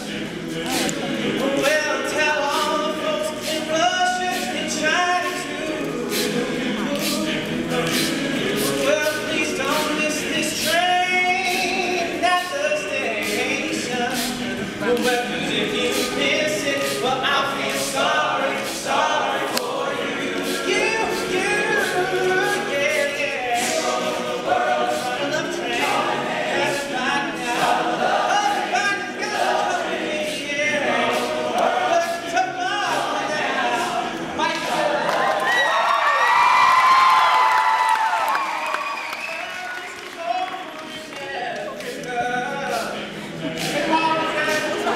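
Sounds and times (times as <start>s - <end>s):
sharp clicks keeping a beat: 0.0s - 35.2s, 39.4s - 44.9s
male a cappella group singing: 0.0s - 35.6s, 39.6s - 44.9s.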